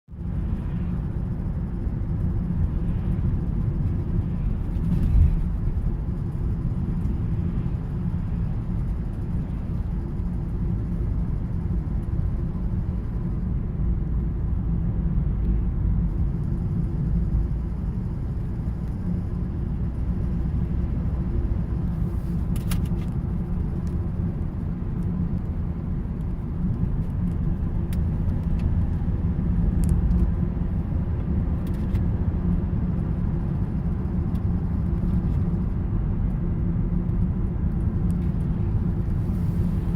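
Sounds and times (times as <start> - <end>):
engine and road rumble: 0.1 - 39.9.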